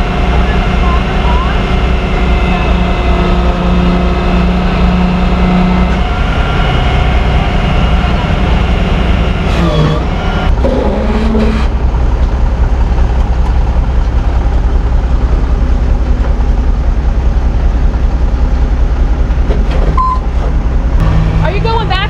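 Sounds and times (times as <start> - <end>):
heavy vehicle engine droning: 0.0 - 22.0.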